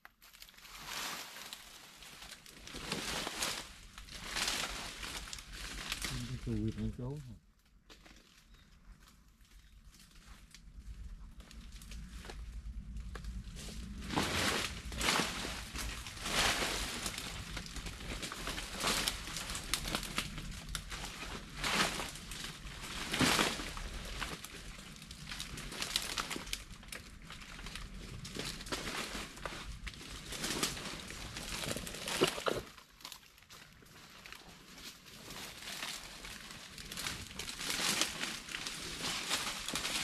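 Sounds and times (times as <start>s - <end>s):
rustling in leaf litter: 0.1s - 7.3s, 11.2s - 40.0s.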